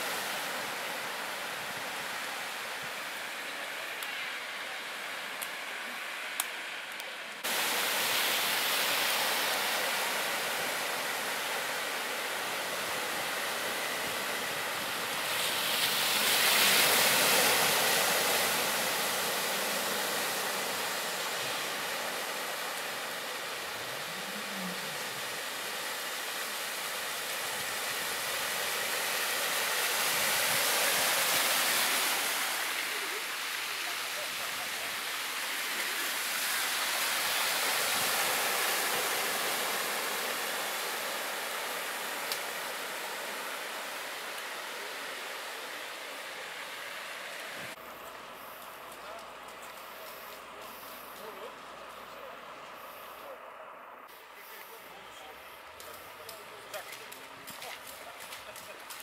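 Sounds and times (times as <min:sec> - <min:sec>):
cars driving through deep water: 0:00.0 - 0:59.0.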